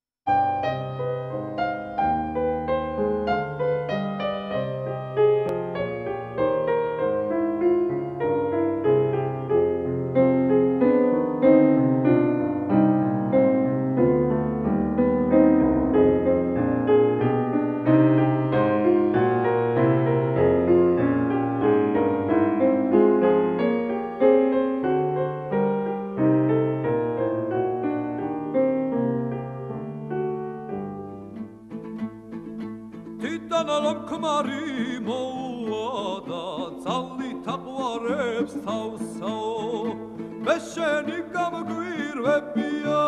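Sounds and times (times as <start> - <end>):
piano music: 0.3 - 43.0.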